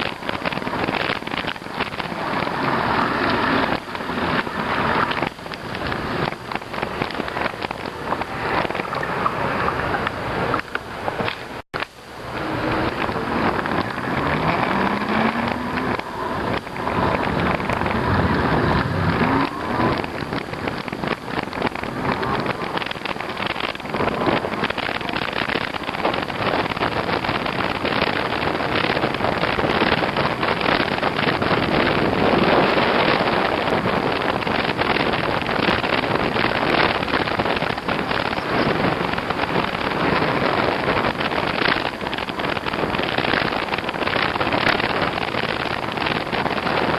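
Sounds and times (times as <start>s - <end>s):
road noise: 0.0s - 46.9s
wind buffeting: 0.0s - 46.9s.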